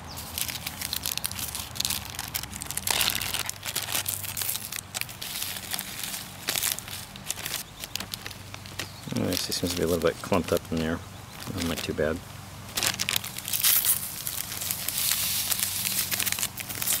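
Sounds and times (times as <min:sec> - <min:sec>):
plastic bag and foil crinkling: 0:00.1 - 0:17.0.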